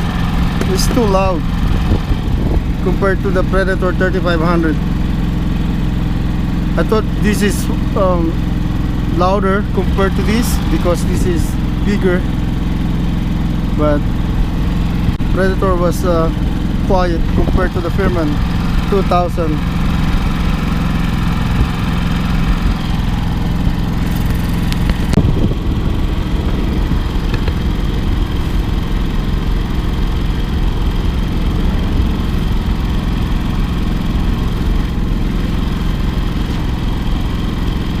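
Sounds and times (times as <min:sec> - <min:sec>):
generator engine humming: 0:00.0 - 0:38.0.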